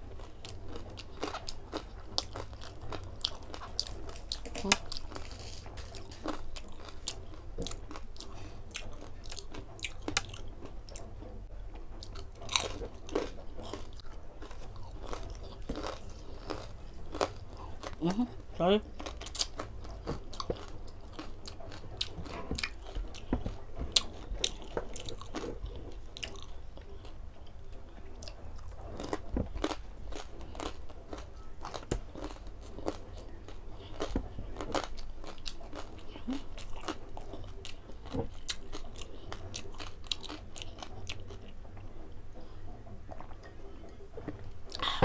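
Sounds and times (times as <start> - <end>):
chewing crispy pork: 0.0 - 45.0.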